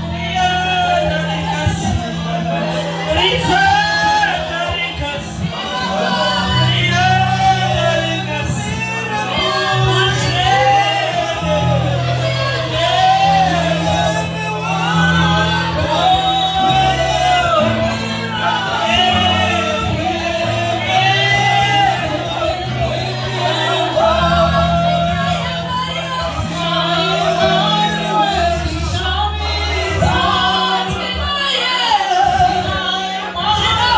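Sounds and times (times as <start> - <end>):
voices singing worship song: 0.0 - 33.9.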